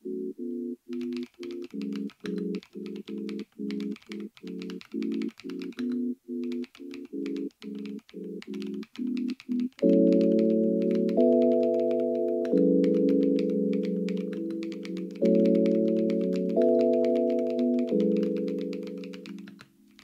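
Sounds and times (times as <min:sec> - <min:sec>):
background music chords: 0:00.0 - 0:20.0
mechanical keyboard key clacks: 0:00.9 - 0:20.0.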